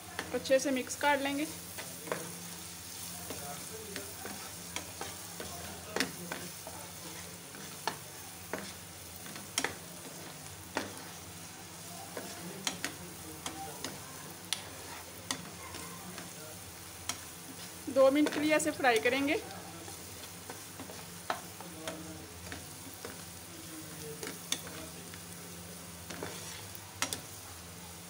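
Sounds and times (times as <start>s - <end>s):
vegetables sizzling in frying pan: 0.0s - 28.0s.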